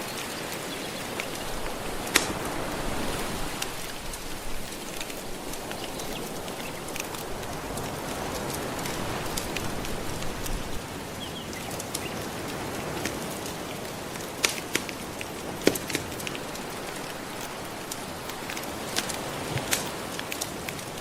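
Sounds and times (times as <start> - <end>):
ocean waves washing: 0.0 - 21.0
wood fire crackling and popping: 0.1 - 21.0.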